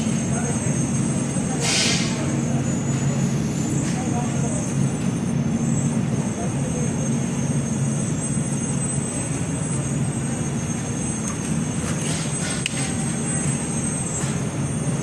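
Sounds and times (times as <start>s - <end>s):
street noise hum: 0.0s - 15.0s.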